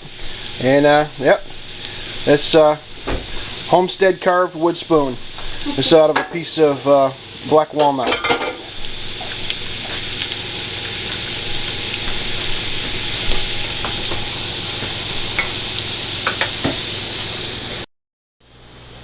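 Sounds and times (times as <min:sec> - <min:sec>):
steady hiss: 0:00.0 - 0:17.8.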